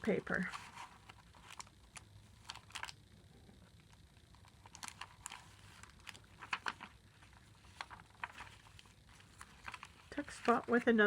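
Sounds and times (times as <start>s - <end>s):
paper pages rustling: 0.2s - 3.0s, 4.3s - 11.0s.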